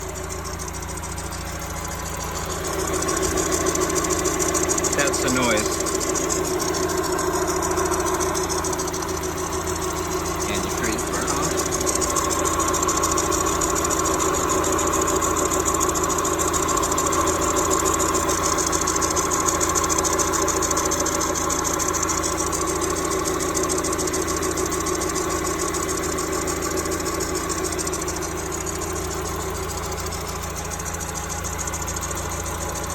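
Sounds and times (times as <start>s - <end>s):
car engine idling: 0.0s - 32.9s
odd noise from engine belt: 0.0s - 32.9s.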